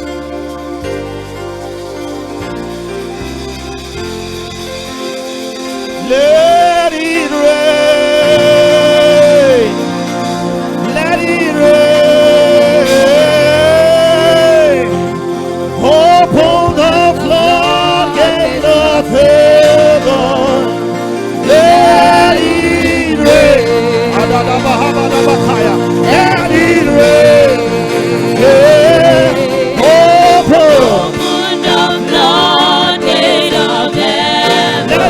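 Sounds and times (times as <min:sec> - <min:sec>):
instrumental accompaniment: 0:00.0 - 0:35.0
person singing: 0:06.0 - 0:10.0, 0:10.7 - 0:35.0.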